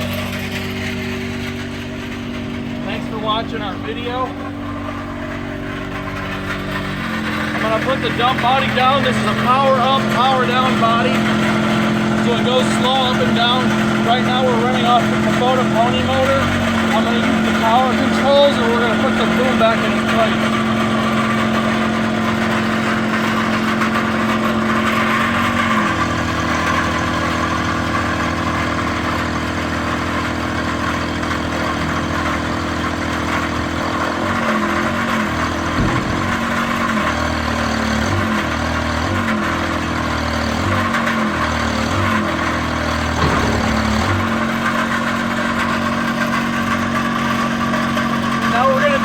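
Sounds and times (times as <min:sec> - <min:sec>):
small engine driving hydraulics: 0:00.0 - 0:49.0.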